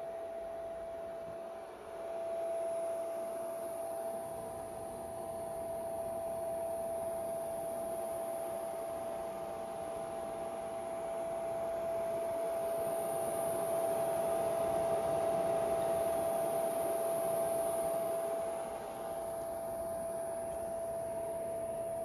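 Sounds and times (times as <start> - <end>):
electrical whine: 0.0 - 22.0.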